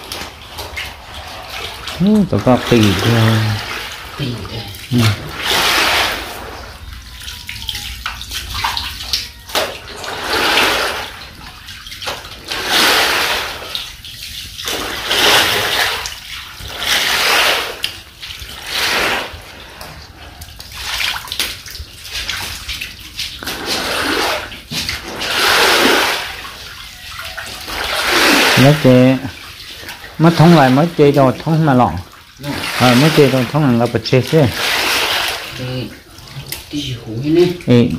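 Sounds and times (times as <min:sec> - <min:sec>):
cloth swooshing through water: 0:00.0 - 0:09.2, 0:09.8 - 0:36.8
water sloshing and splashing: 0:00.0 - 0:37.9.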